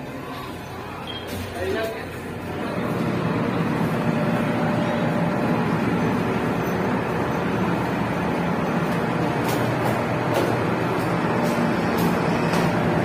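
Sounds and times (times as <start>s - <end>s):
ship engines droning: 0.0s - 13.0s.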